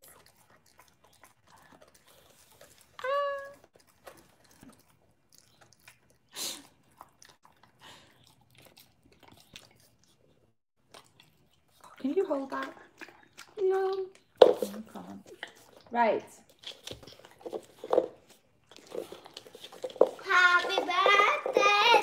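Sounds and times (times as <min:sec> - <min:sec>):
dog chewing and crunching treat: 0:00.0 - 0:22.0.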